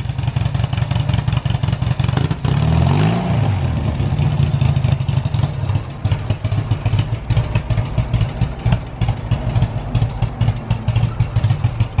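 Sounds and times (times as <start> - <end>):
motorcycle engine idling: 0.0 - 2.6, 3.6 - 12.0.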